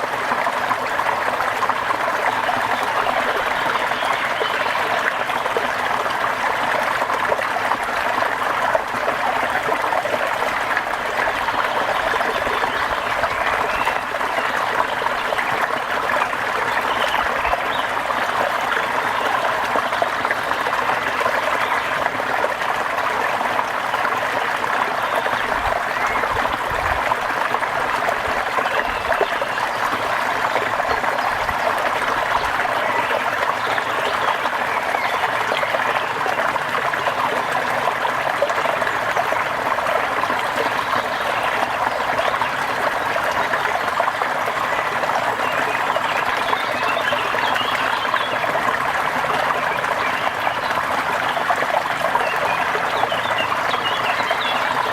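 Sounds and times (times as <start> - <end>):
trickling running water: 0.0 - 54.9.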